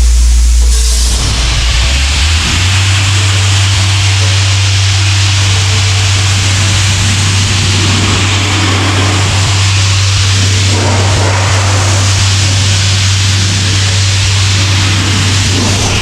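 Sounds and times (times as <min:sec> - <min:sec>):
air blowpipe hissing: 0:00.0 - 0:16.0
compressor low drone: 0:00.0 - 0:16.0.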